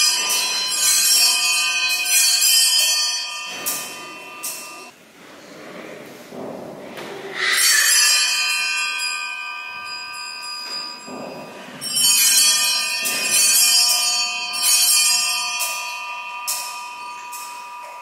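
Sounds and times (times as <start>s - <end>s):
small bells ringing: 0.0s - 5.0s, 7.6s - 18.0s.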